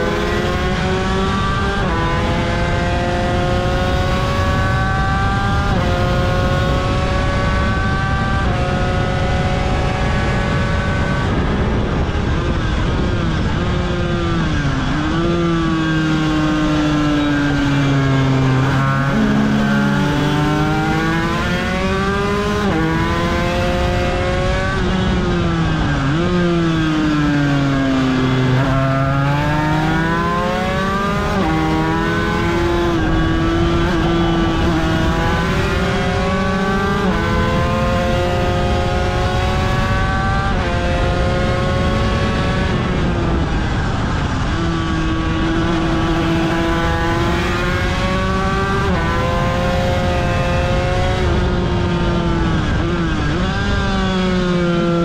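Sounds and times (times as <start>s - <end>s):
racing motorcycle engine: 0.0s - 55.0s.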